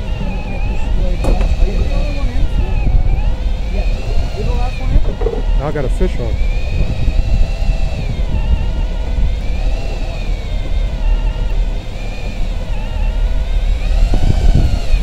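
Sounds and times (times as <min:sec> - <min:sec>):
fishing reel motor whining: 0:00.0 - 0:15.0
heavy low rumble: 0:00.0 - 0:15.0.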